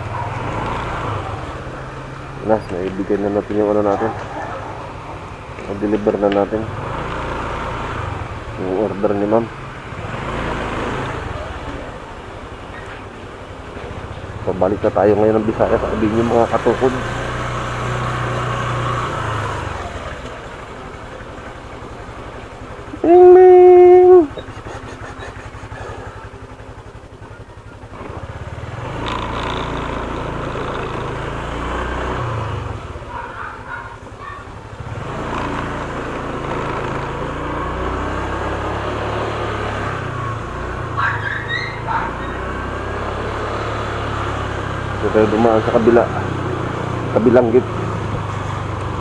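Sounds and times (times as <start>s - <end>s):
car engine running: 0.0s - 42.8s, 43.5s - 49.0s
road noise: 0.0s - 49.0s
traffic rumble: 0.0s - 49.0s.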